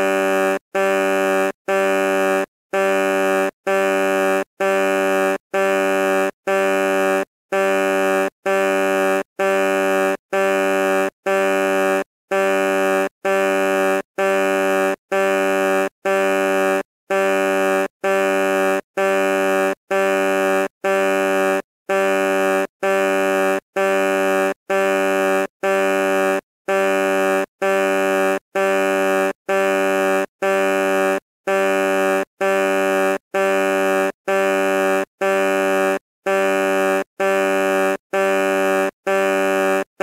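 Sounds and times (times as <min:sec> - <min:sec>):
truck horn honks: 0:00.0 - 0:40.0.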